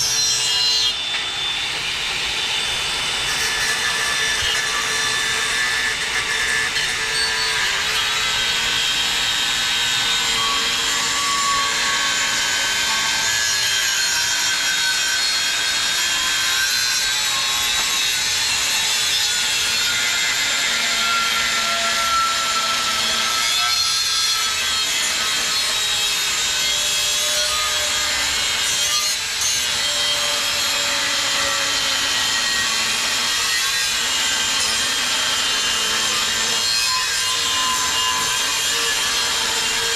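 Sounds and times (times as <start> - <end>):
angle grinder cutting steel: 0.0 - 39.9.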